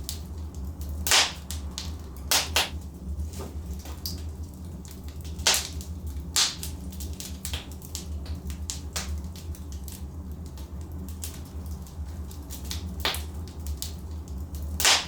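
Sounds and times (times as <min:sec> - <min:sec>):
logs crackling in fireplace: 0:00.0 - 0:15.0.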